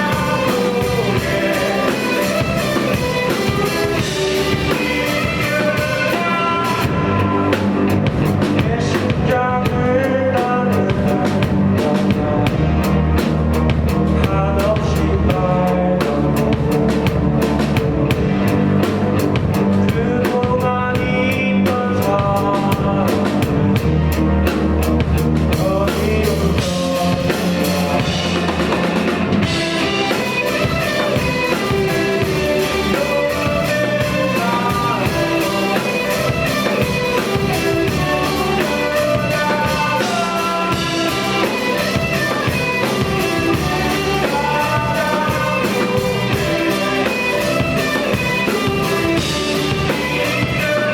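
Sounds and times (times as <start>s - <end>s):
person singing: 0.0s - 13.2s, 13.8s - 18.7s, 19.5s - 24.5s, 25.4s - 50.9s
live rock band playing: 0.0s - 50.9s.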